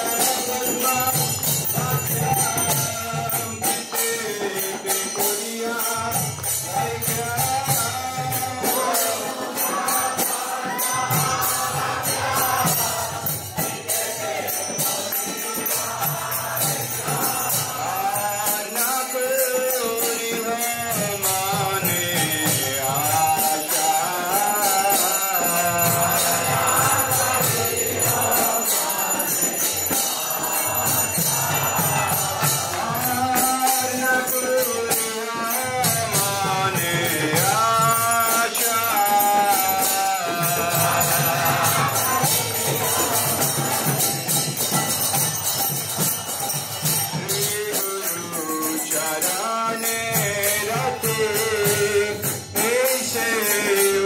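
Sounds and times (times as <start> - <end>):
jingling percussion: 0.0 - 54.0.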